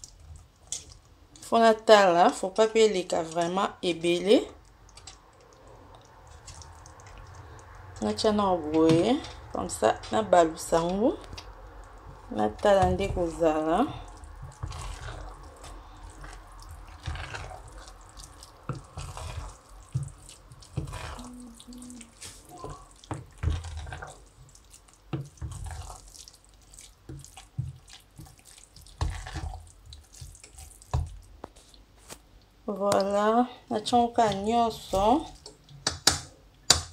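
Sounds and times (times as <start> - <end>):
wooden spoon stirring moist rice: 0.0 - 36.0.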